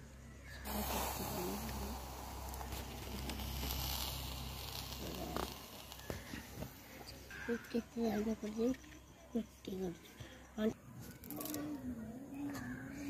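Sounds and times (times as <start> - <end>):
hot embers hissing: 0.5 - 12.0.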